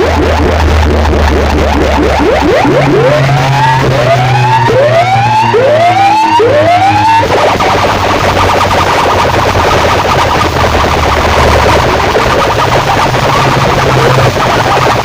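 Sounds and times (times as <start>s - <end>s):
dense buzzing rattle: 0.0s - 15.0s
siren-like whoops from speakers: 0.0s - 15.0s
steady bass drone: 0.0s - 15.0s.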